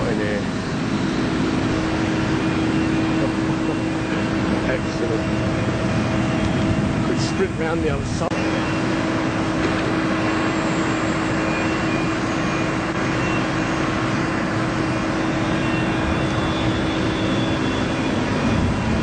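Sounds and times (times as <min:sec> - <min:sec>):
constant hum: 0:00.0 - 0:19.0
mechanical rushing noise: 0:00.0 - 0:19.0.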